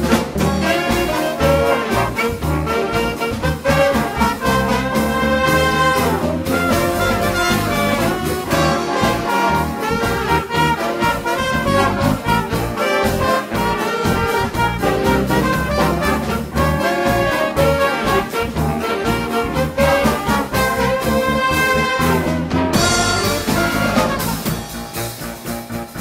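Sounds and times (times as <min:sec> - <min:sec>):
brass jazz instrumental music: 0:00.0 - 0:26.0.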